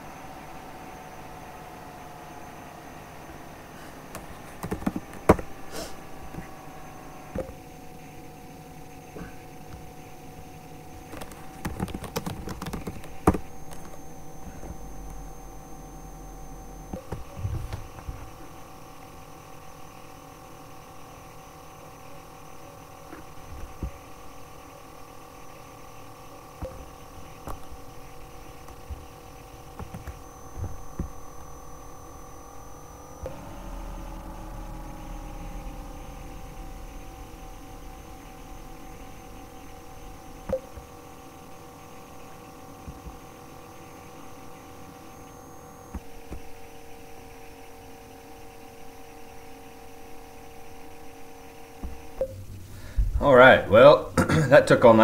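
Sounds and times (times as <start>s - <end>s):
computer cooling fan humming: 0.0s - 55.0s.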